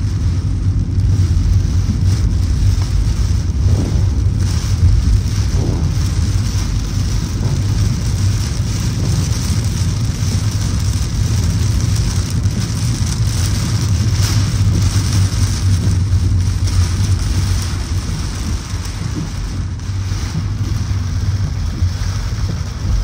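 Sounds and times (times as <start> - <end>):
car road and engine rumble: 0.0 - 23.0
rain hissing on car: 0.0 - 23.0.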